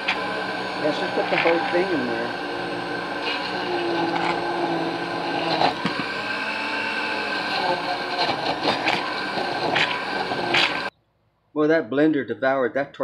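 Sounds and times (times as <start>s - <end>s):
blender running: 0.0s - 10.9s.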